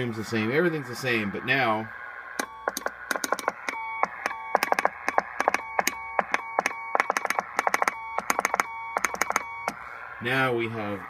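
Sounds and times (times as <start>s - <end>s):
steady high morse tone: 0.0s - 11.0s.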